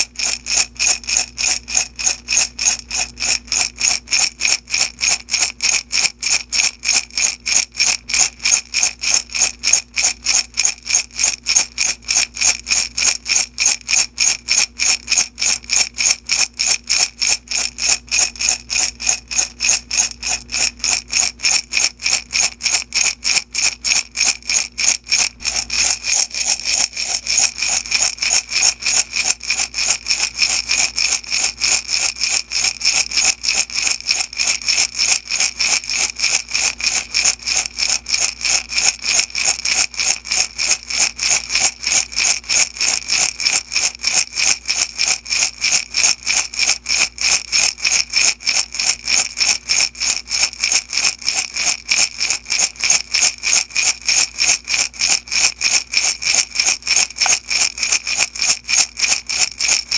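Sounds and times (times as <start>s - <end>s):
beads rattling in glass jar: 0.0s - 59.9s.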